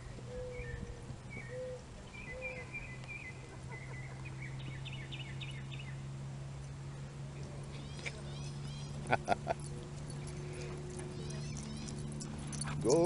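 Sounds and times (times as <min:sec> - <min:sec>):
birds chirping: 0:00.0 - 0:06.1, 0:06.9 - 0:13.0
steady low hum: 0:00.0 - 0:13.0.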